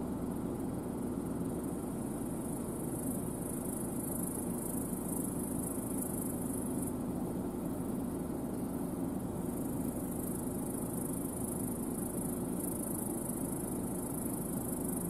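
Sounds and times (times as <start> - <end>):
high insect buzz: 0.0 - 15.0.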